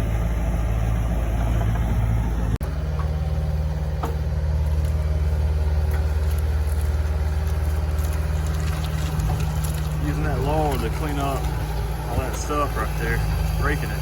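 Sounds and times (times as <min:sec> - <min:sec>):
heavy equipment engine running: 0:00.0 - 0:14.0.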